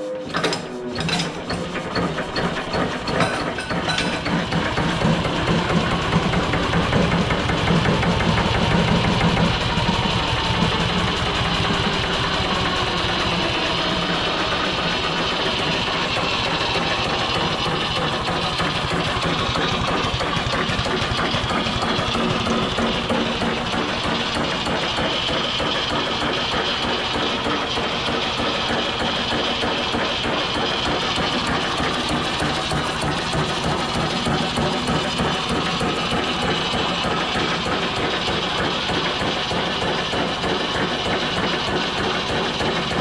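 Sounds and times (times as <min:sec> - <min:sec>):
large stationary engine running: 0:00.0 - 0:43.0.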